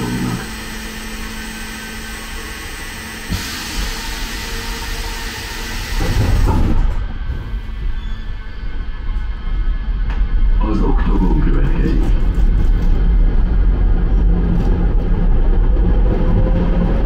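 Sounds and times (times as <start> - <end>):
train hum: 0.0 - 17.0
train pulling away rumble: 0.0 - 17.0.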